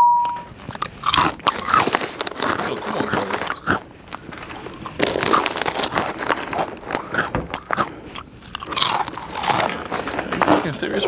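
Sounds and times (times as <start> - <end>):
person crunching snack food: 0.6 - 10.6.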